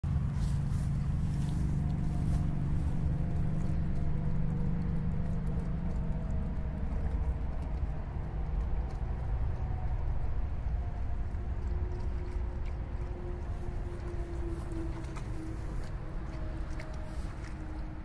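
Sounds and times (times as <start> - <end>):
low engine rumble: 0.0 - 18.0
faint drifting tones: 0.1 - 18.0.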